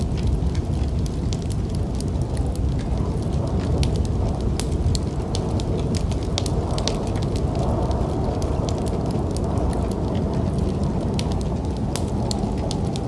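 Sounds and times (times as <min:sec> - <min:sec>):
fire pops and snaps: 0:00.0 - 0:13.0
steady low rumble: 0:00.0 - 0:13.0
wood fire crackling: 0:00.0 - 0:13.0.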